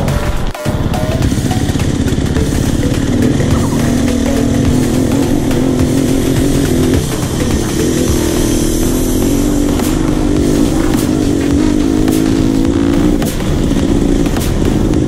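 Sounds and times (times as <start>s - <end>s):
dirt bike engine buzzing: 0.0s - 15.0s.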